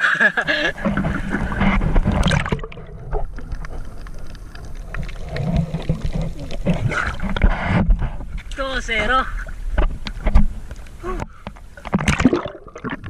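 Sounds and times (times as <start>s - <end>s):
sea water sloshing and gurgling: 0.5s - 8.5s, 9.3s - 13.0s.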